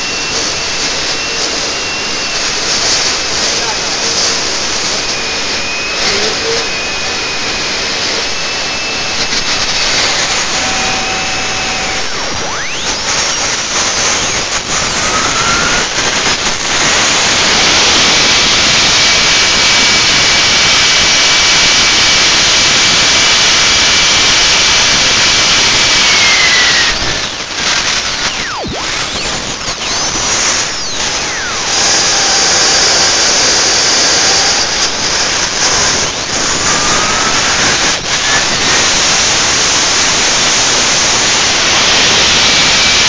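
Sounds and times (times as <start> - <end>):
model jet turbine whining hiss: 0.0 - 43.0.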